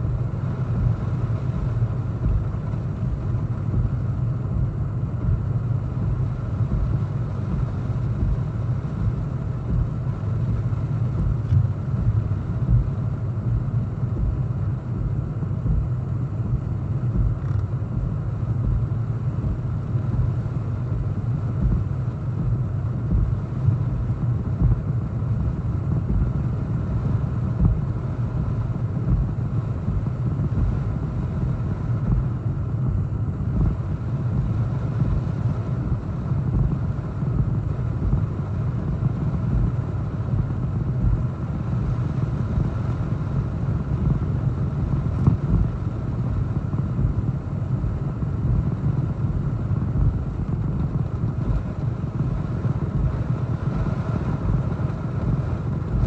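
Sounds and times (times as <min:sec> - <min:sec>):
strong wind buffeting microphone: 0:00.0 - 0:56.0.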